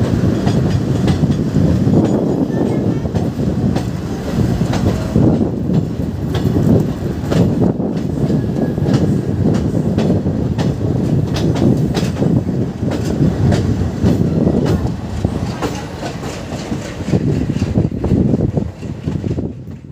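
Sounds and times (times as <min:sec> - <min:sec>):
train coaches rumbling past: 0:00.0 - 0:19.9
wheels clattering over rail joints: 0:00.0 - 0:19.9.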